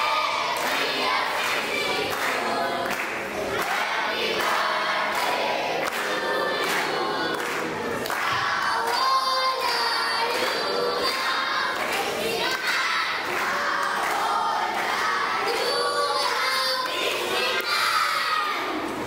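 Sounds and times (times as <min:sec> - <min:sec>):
children singing in chorus: 0:00.0 - 0:19.0.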